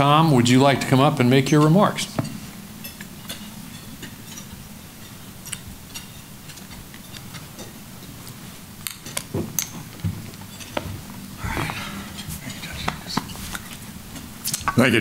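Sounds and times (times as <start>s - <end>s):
steady low hum: 0.0s - 15.0s
cutlery and dishes clinking: 0.8s - 15.0s.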